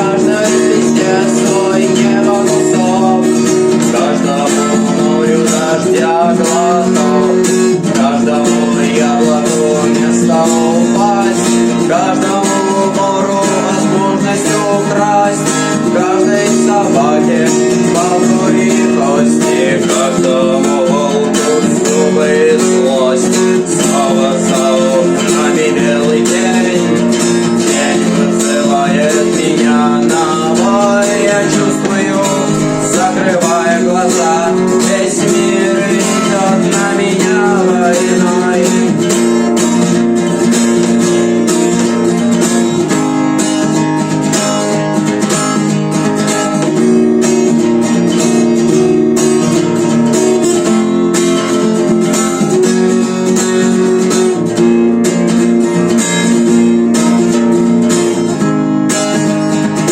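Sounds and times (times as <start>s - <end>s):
strummed guitar chords: 0.0s - 59.9s
wavering guitar lead melody: 0.0s - 59.9s.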